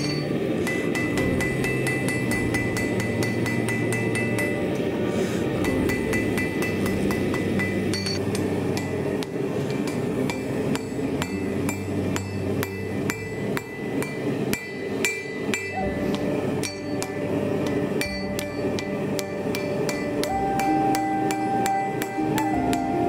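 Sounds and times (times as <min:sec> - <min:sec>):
hammer striking steel on anvil: 0:00.0 - 0:04.9, 0:05.6 - 0:23.0.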